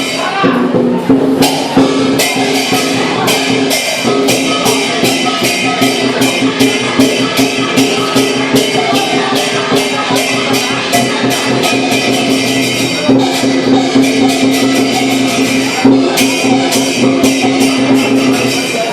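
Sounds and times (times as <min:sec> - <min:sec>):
cymbals clashing: 0:00.0 - 0:18.9
drum beat: 0:00.0 - 0:18.9
ringing metallic tone: 0:00.0 - 0:18.9.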